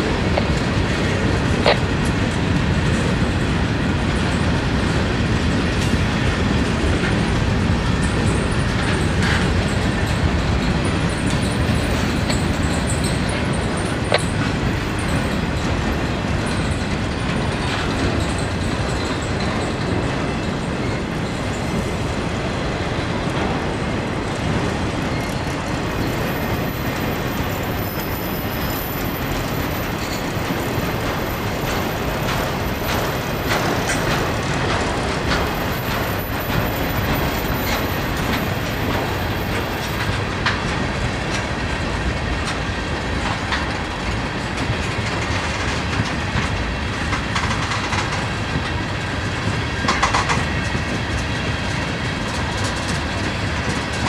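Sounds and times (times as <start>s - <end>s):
freight cars rumbling on rails: 0.0s - 54.0s
wheels clicking over rail joints: 0.0s - 54.0s.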